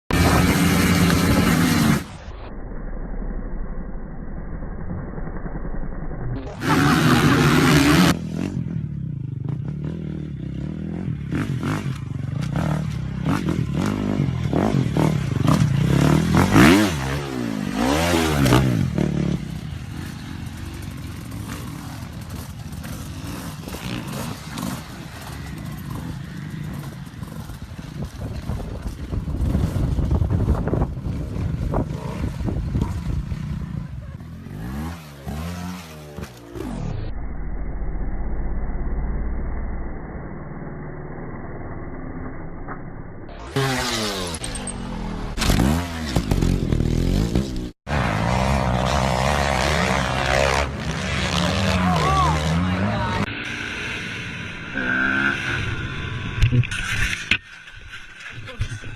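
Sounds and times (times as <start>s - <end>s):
dirt bike engines revving: 0.1s - 2.2s, 6.4s - 37.0s, 43.4s - 58.9s.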